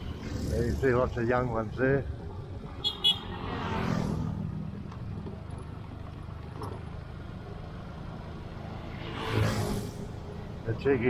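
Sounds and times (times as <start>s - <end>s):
scooter passing: 0.0s - 10.6s
road and wind noise: 0.0s - 11.0s.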